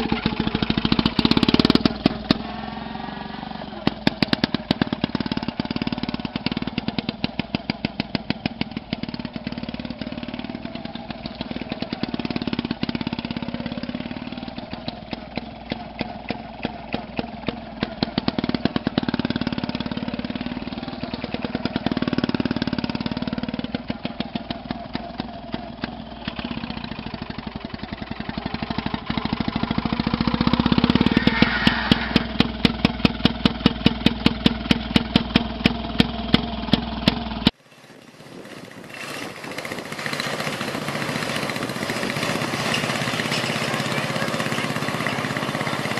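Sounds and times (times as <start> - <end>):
small engine rapid ticking: 0.0 - 45.9.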